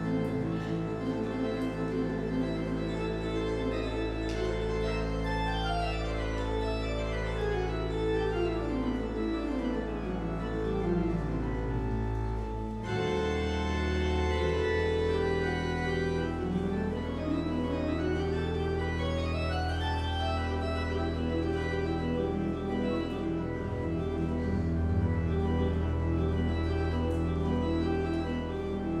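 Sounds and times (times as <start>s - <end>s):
church organ playing: 0.0s - 29.0s.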